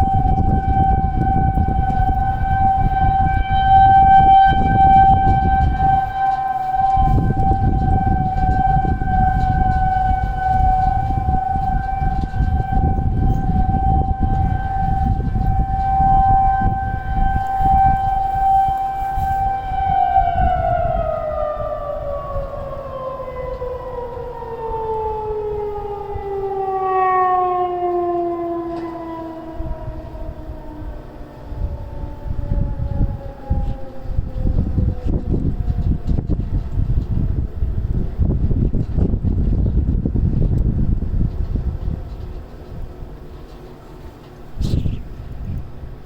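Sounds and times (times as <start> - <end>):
low rumbling noise: 0.0 - 46.0
outdoor warning sirens: 0.0 - 46.0.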